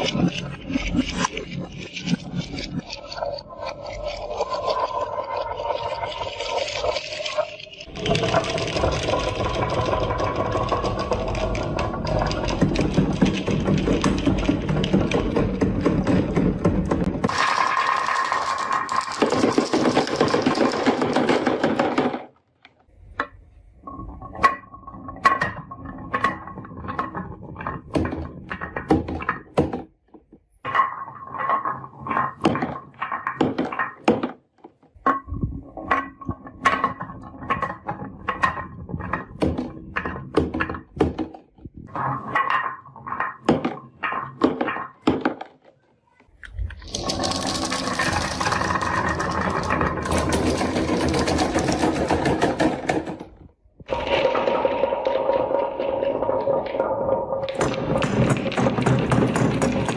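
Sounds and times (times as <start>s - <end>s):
marbles rolling and clacking on wood: 0.0s - 59.9s.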